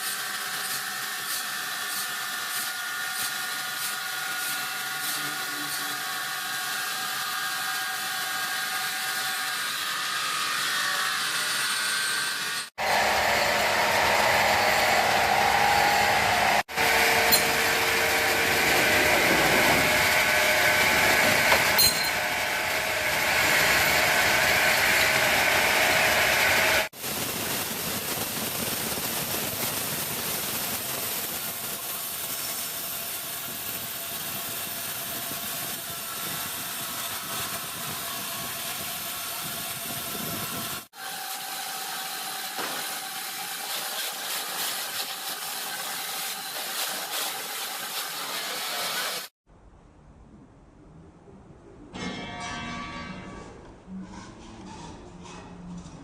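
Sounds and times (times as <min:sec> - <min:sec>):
sawmill machine whine: 0:00.0 - 0:49.3
saw cutting: 0:00.0 - 0:49.4.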